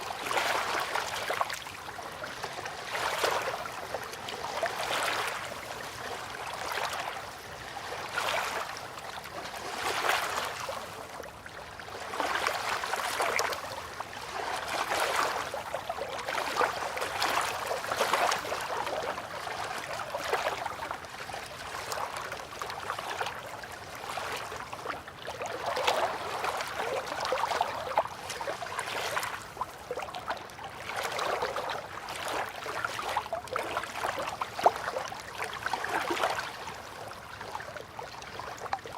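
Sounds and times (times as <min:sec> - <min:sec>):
river water lapping and trickling: 0:00.0 - 0:38.9.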